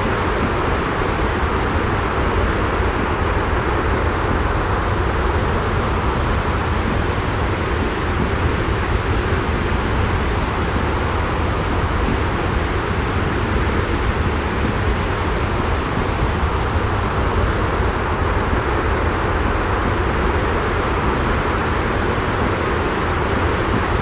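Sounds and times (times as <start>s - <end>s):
white noise: 0.0s - 24.0s.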